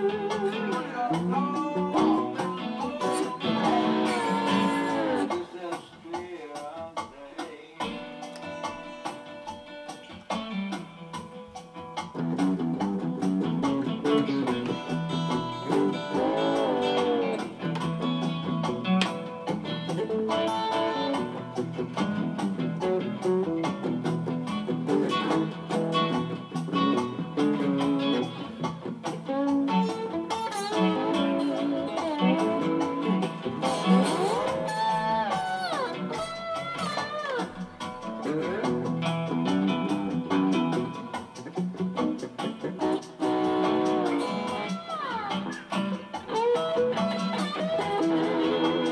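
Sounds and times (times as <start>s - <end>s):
blues on acoustic guitar: 0.0s - 48.9s
slide guitar: 0.0s - 48.9s.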